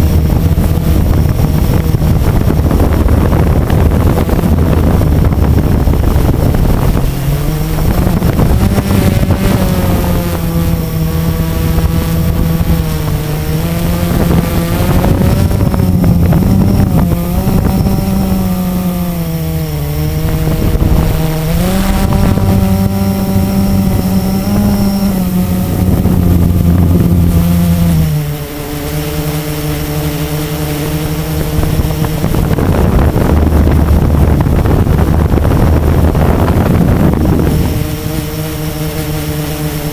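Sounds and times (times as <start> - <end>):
quadcopter motors humming: 0.0 - 39.9
wind buffeting microphone: 0.0 - 39.9.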